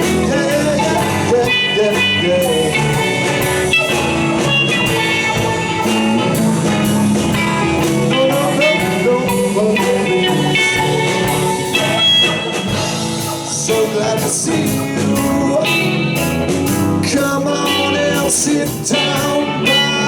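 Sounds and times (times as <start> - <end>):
drum kit beat: 0.0 - 20.0
electric guitar: 0.0 - 20.0.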